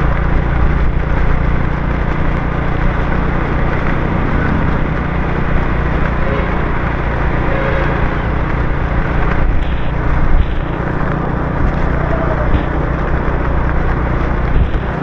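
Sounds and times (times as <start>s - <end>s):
motorbike engine running: 0.0s - 15.0s
passing city traffic: 0.0s - 15.0s
tyres hissing on wet road: 0.0s - 15.0s.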